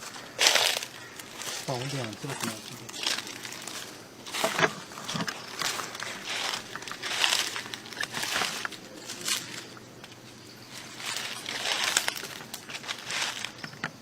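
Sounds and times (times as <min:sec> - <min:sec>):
footsteps crunching through dry leaves: 0:00.0 - 0:13.7.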